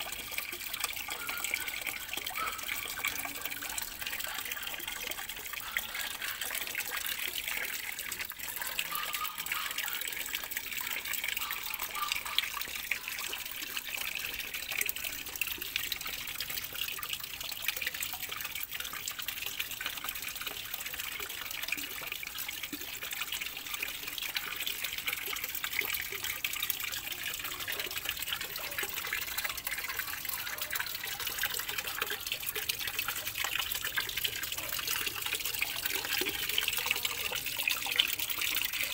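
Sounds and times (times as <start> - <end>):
water pouring into pond: 0.0 - 38.9.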